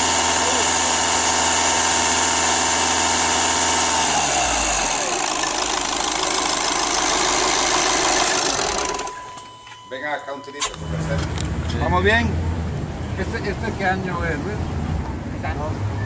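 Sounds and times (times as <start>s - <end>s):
diesel engine revving: 0.0s - 9.2s, 10.7s - 16.0s.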